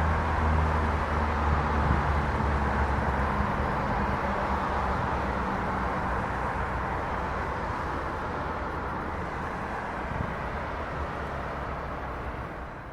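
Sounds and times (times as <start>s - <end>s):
low traffic rumble: 0.0s - 12.9s
passing vehicles: 0.0s - 12.9s.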